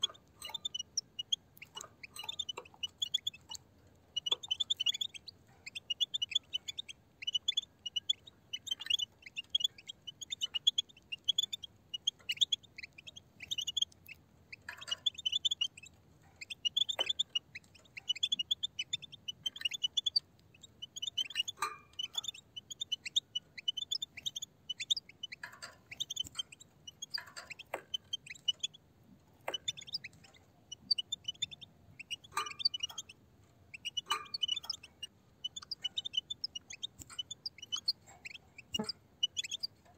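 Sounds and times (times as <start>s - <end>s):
goldfinches chirping and twittering: 0.0s - 28.8s, 29.4s - 39.9s.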